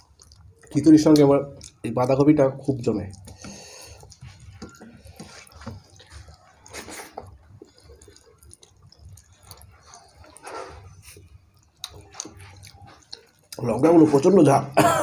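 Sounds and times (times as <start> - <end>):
mouths chewing: 0.0 - 14.7
fingers mixing food on plates: 0.0 - 14.8.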